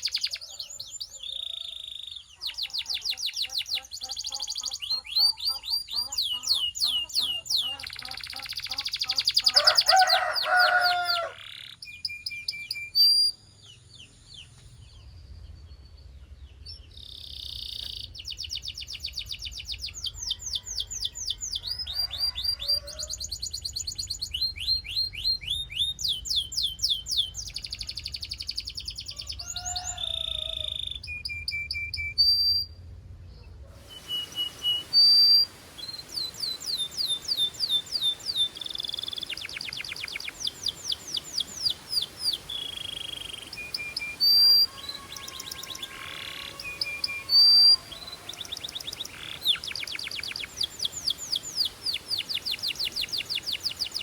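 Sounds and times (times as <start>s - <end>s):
canary singing trills: 0.0s - 15.6s, 16.5s - 32.9s, 33.8s - 54.0s.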